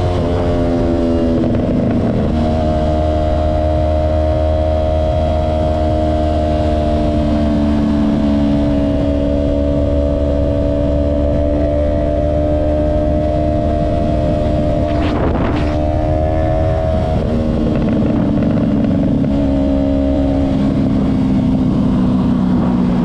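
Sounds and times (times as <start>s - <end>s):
motorcycle engine at steady speed: 0.0s - 23.0s
road rumble: 0.0s - 23.0s
wind: 0.0s - 23.0s.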